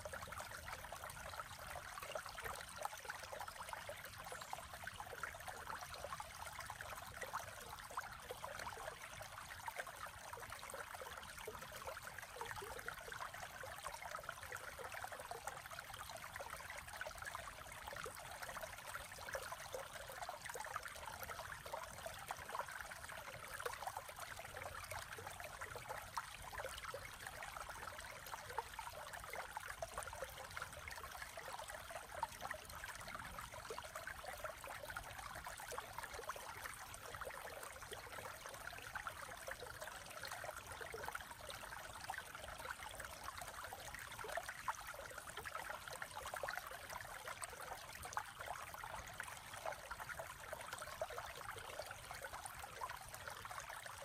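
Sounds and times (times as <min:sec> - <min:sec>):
creek water babbling: 0:00.0 - 0:54.0.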